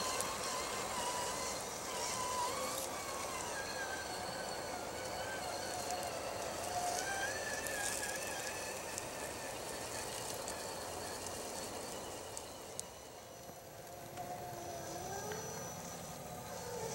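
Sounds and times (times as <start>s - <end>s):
electric motor and gears whining: 0.0s - 16.9s.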